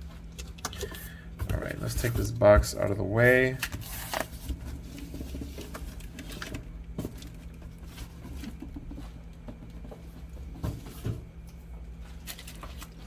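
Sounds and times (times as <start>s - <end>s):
steady low hum: 0.0s - 13.0s
cardboard packaging being handled: 1.4s - 13.0s.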